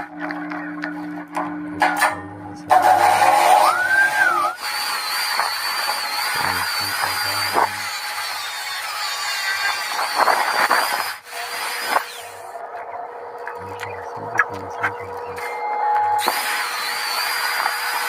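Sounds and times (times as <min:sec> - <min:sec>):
power tool whining: 0:02.7 - 0:18.0.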